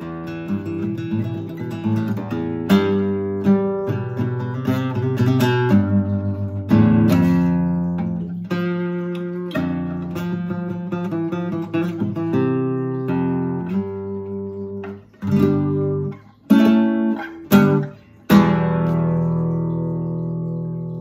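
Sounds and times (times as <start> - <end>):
nylon-string guitar chords: 0.0 - 21.0.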